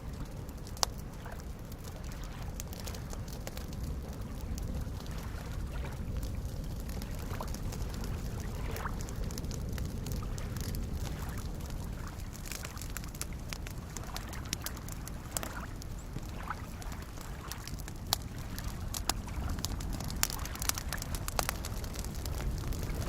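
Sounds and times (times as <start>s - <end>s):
campfire crackling and popping: 0.0s - 23.0s
small lake waves: 0.0s - 23.0s.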